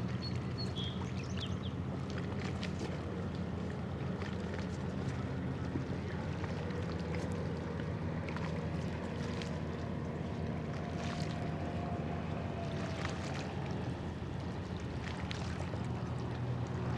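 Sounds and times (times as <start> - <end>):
ship engine low drone: 0.0 - 16.9.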